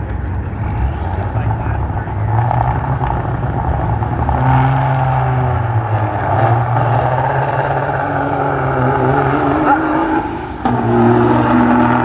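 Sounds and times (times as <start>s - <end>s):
race truck engine running: 0.0s - 12.0s.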